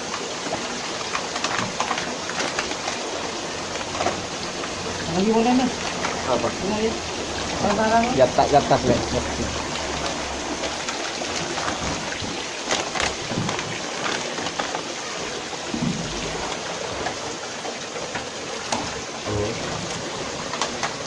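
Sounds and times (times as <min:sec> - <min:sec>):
running water hiss: 0:00.0 - 0:21.0.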